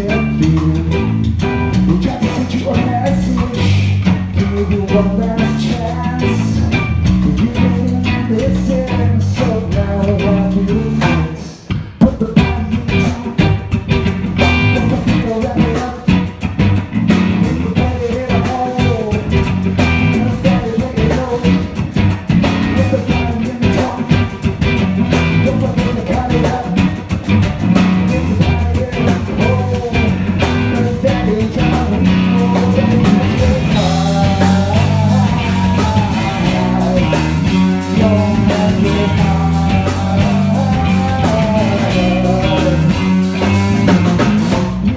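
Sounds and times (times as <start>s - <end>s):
bass guitar: 0.0s - 44.9s
drum kit: 0.0s - 44.9s
electric guitar: 0.0s - 44.9s.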